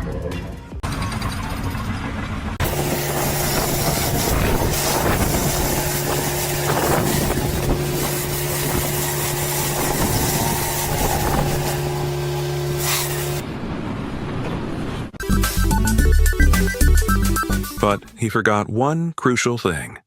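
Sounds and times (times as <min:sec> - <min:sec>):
machinery running: 0:00.0 - 0:18.2.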